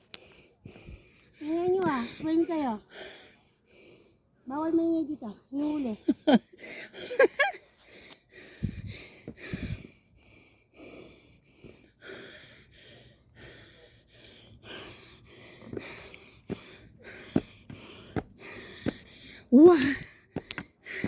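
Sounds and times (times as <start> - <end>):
person breathing hard: 0.0 - 4.4, 6.5 - 21.0.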